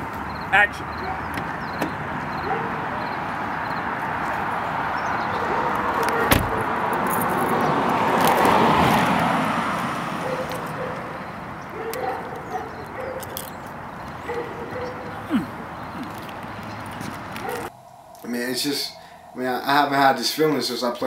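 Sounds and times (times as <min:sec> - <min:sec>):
car passing: 0:00.0 - 0:17.7.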